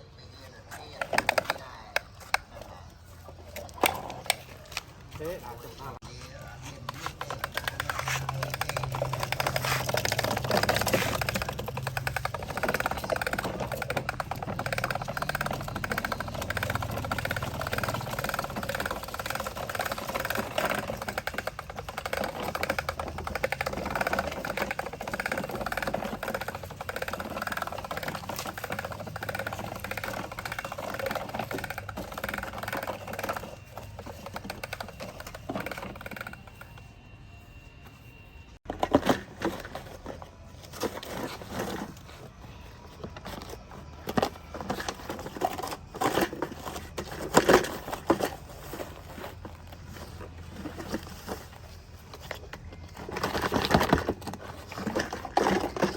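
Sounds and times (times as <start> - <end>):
toy vehicle motor and gears clattering: 0.0 - 37.9, 38.5 - 55.9.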